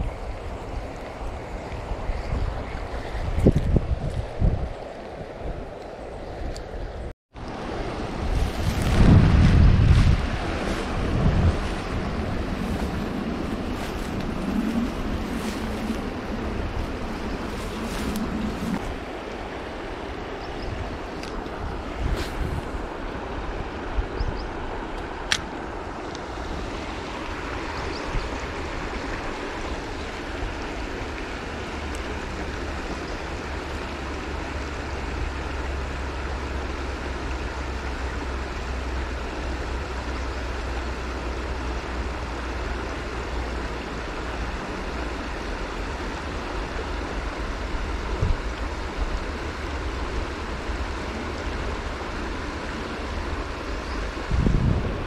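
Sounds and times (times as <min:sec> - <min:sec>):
shallow stream flowing: 0:00.0 - 0:55.0
wind rumbling on microphone: 0:00.0 - 0:55.0.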